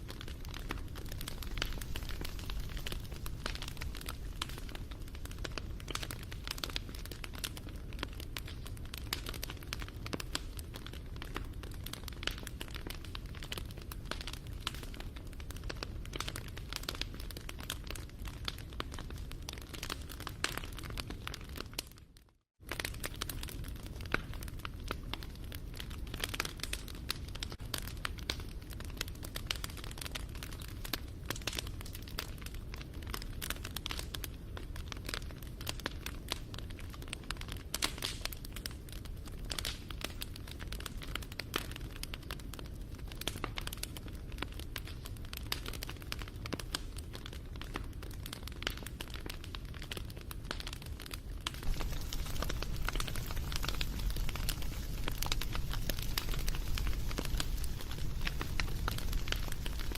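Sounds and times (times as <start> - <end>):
low rumble of flames: 0.0 - 22.0, 22.6 - 59.9
wood fire crackling and popping: 0.0 - 59.9.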